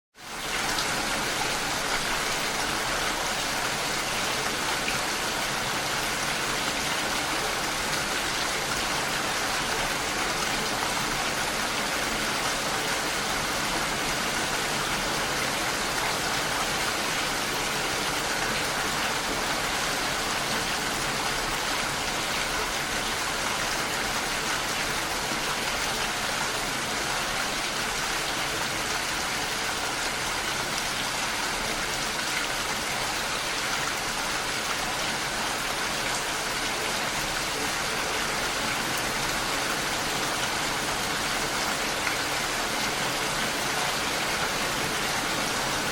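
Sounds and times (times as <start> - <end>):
steady rain: 0.2 - 45.9.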